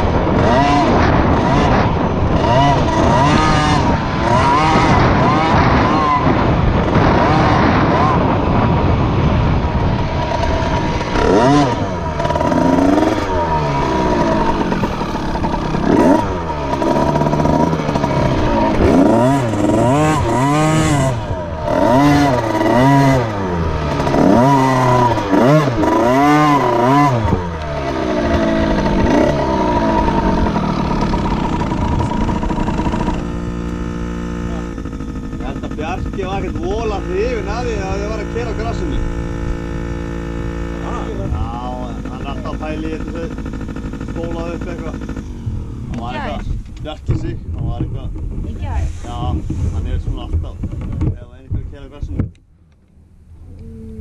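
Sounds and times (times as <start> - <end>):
motocross bike engine revving: 0.0 - 52.2.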